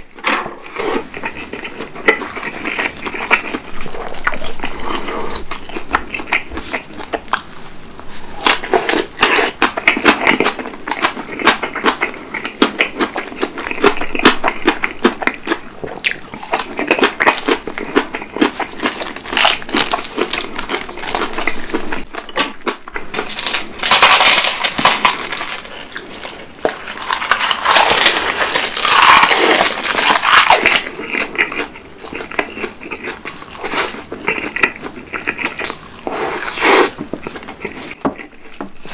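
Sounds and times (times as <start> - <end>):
crunching and wet chewing: 0.0 - 38.9.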